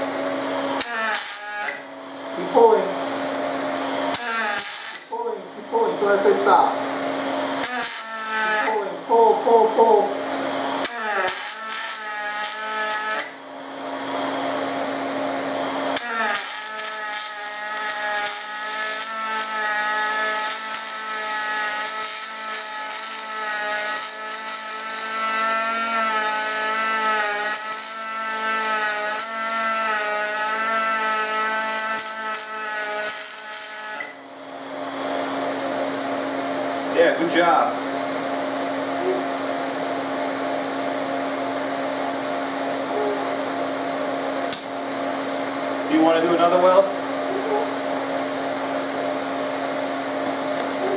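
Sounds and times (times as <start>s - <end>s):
welding arc buzzing: 0.0s - 36.4s, 40.4s - 50.9s
machine hum: 0.0s - 50.9s.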